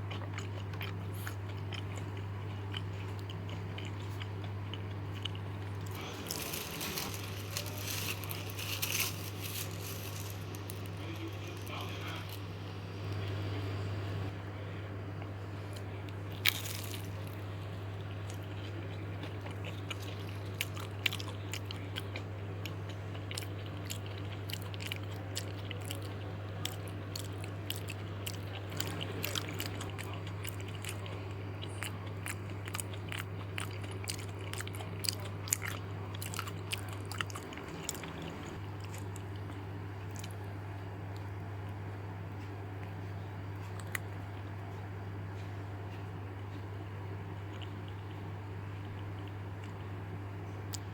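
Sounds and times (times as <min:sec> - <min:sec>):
crunchy snack being chewed: 0:00.0 - 0:13.3, 0:15.7 - 0:41.4, 0:42.4 - 0:46.5, 0:47.3 - 0:50.0
steady low hum: 0:00.0 - 0:50.9.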